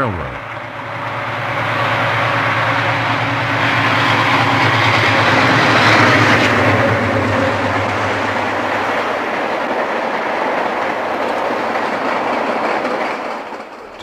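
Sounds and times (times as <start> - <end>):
diesel train engine drone: 0.0 - 14.0
rail and wheel noise: 0.0 - 14.0.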